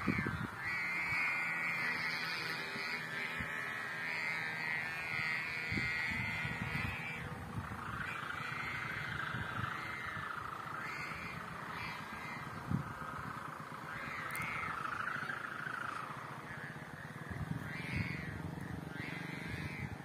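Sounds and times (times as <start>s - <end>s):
kite hummers droning: 0.0s - 20.0s.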